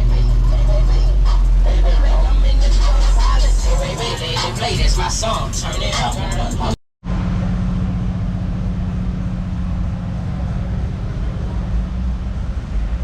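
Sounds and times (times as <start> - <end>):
constant hum: 0.0 - 13.0
engine rumbling: 0.0 - 13.0.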